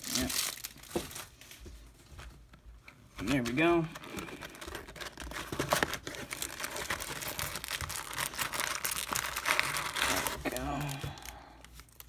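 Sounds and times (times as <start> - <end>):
plastic and foil crinkling: 0.0 - 2.4, 3.2 - 12.0.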